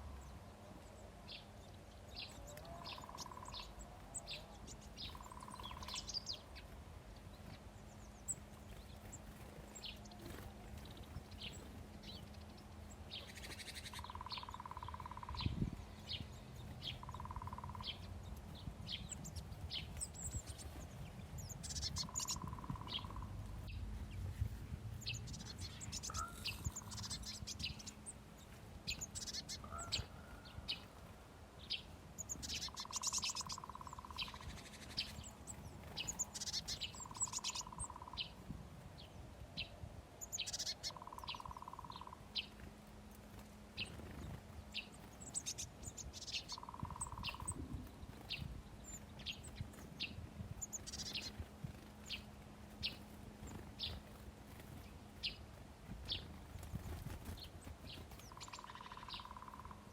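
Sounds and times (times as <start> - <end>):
faint low hum: 0.0 - 59.9
small birds chirping: 0.0 - 59.9.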